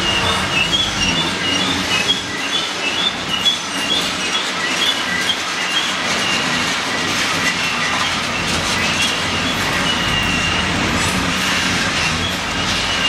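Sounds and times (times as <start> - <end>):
train wheels rumbling and clacking: 0.0 - 13.0
wheel flanges squealing: 0.0 - 13.0.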